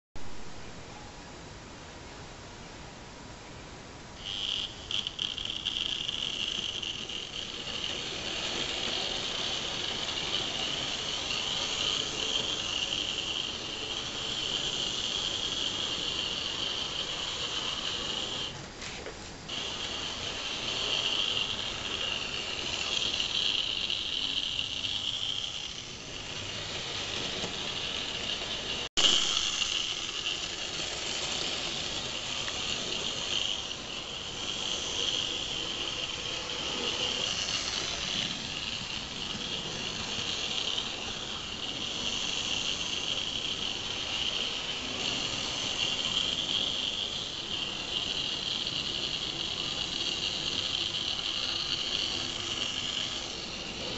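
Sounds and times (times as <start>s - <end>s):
wheels on rails: 4.1s - 53.9s
electric motor high-pitched whine: 4.2s - 18.6s, 19.4s - 53.9s.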